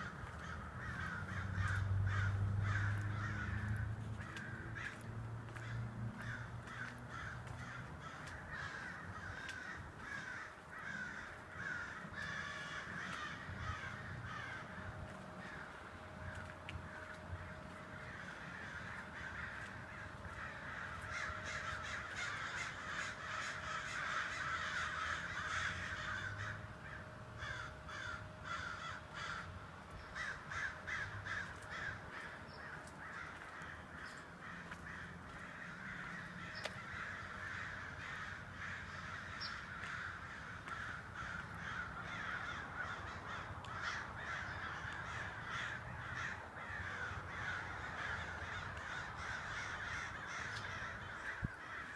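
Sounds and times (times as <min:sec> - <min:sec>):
flock of birds calling: 0:00.0 - 0:51.9.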